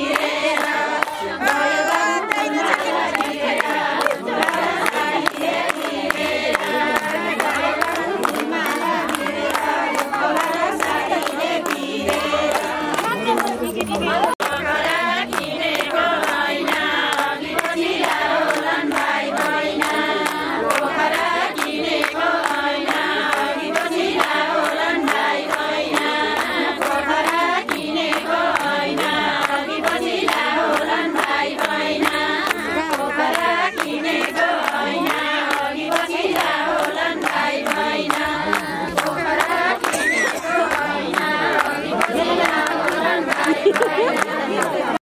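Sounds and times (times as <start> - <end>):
rhythmic hand clapping: 0.0 - 45.0
women singing folk song: 0.0 - 45.0.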